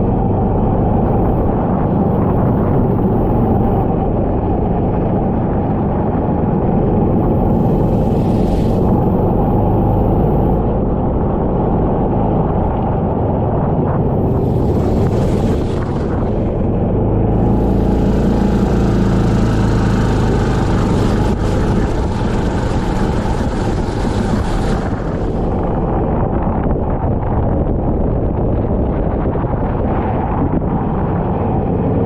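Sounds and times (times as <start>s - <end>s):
kart engine racing: 0.0s - 26.3s
steady rushing noise: 0.0s - 32.0s.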